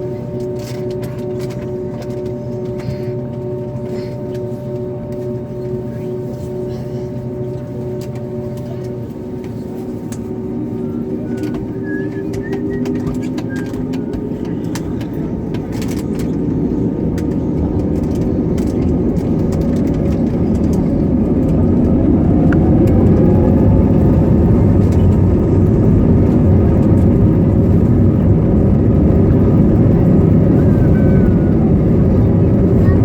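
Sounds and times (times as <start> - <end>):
jet engine rumble and whine: 0.0 - 33.0.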